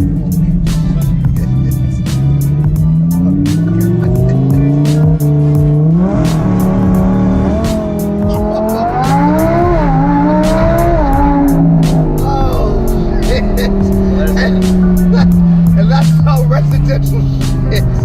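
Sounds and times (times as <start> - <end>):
background music with steady beat: 0.0 - 18.0
car engine revving: 0.0 - 18.0.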